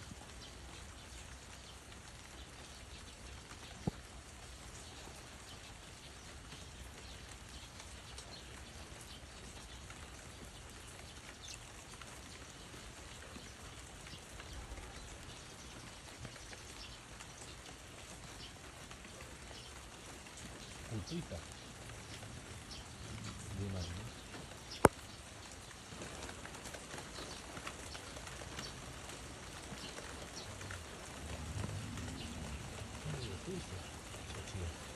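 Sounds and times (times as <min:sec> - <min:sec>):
light rain: 0:00.0 - 0:34.9
raindrops pattering: 0:00.0 - 0:34.9.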